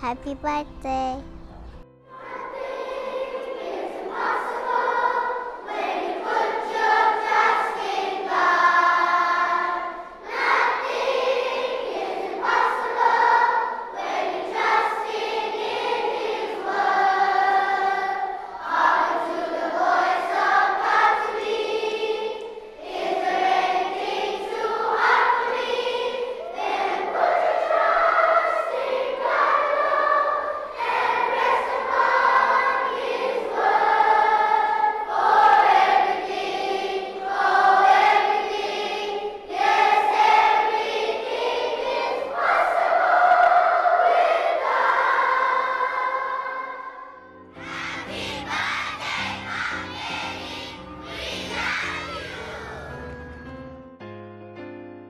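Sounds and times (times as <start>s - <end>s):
children's choir singing: 2.0s - 53.2s.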